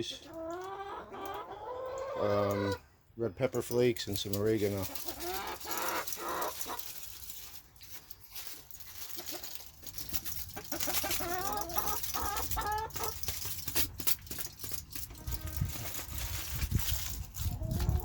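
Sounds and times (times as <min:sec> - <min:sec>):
hens clucking: 0:00.0 - 0:02.8, 0:04.4 - 0:18.0.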